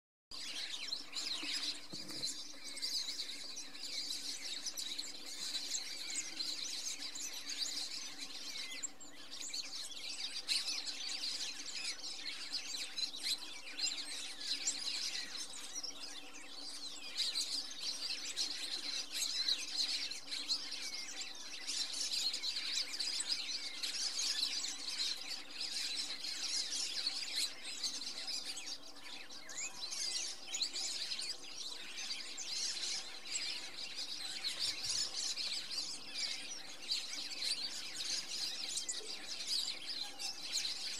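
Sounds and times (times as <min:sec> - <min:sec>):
flock of birds chirping: 0:00.3 - 0:40.9.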